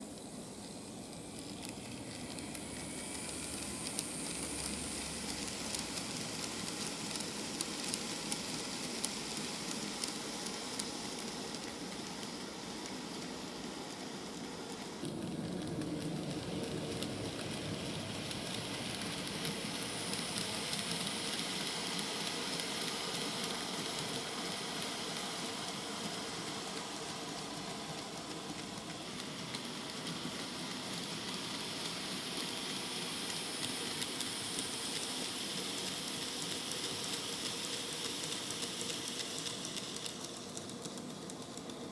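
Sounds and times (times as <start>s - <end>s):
model train rolling hiss: 0.0s - 41.9s.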